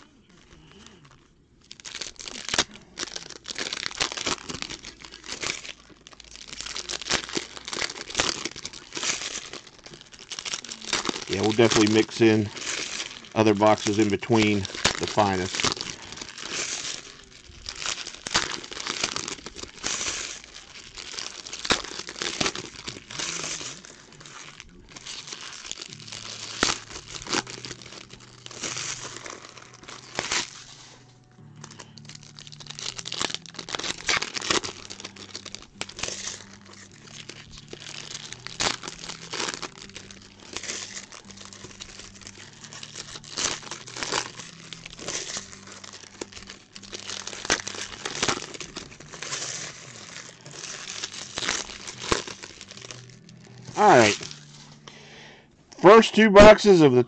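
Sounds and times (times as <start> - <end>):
wrappers crinkling and tearing: 0.0 - 57.0.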